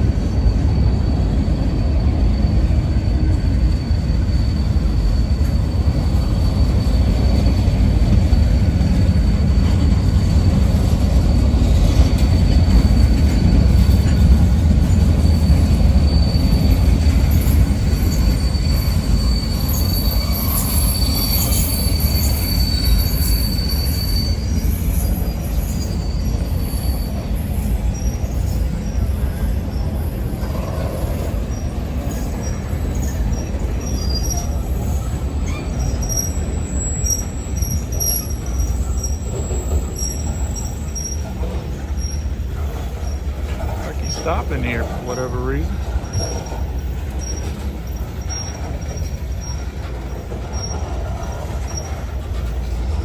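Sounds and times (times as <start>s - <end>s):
wheel squeal: 0.0s - 44.9s, 45.7s - 53.0s
train cars rumbling: 0.0s - 53.0s.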